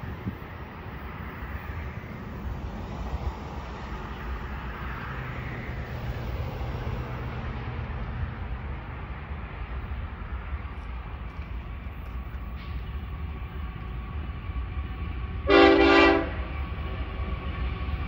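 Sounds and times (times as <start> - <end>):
wind buffeting microphone: 0.0 - 15.4
distant diesel locomotive rumble: 0.0 - 18.0.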